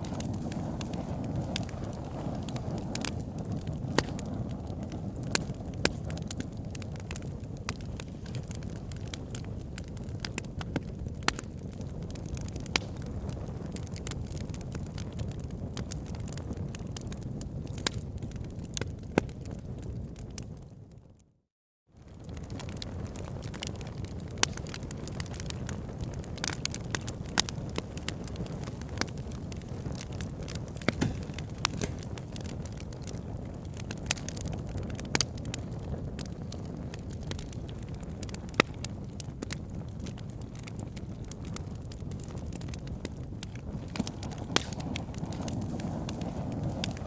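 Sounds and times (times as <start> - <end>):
fire crackling and popping: 0.0 - 21.2, 22.0 - 47.0.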